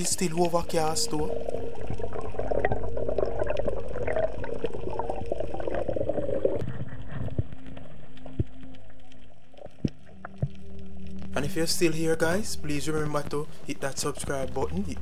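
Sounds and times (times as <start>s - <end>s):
underwater gurgling and bubbling: 0.0s - 15.0s.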